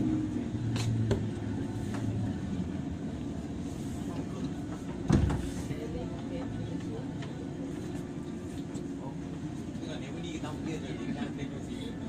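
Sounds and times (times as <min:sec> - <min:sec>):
train wheels and motors rumbling: 0:00.0 - 0:12.0.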